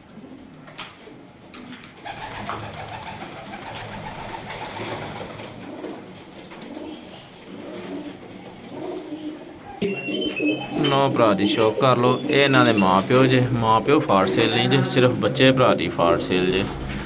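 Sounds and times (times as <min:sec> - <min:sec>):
pigeons cooing: 0:02.0 - 0:17.0.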